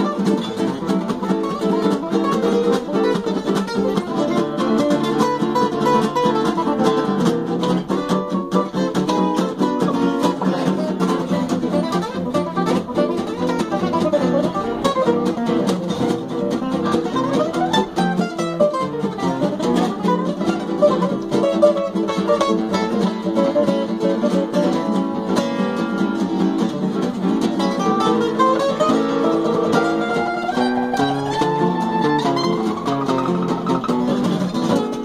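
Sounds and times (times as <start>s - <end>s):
fretless acoustic guitar: 0.0s - 35.0s.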